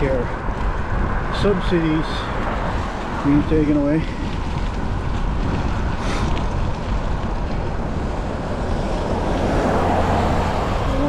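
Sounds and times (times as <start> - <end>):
low rumble of moving ride: 0.0 - 11.0
wind rush over microphone: 0.0 - 11.0.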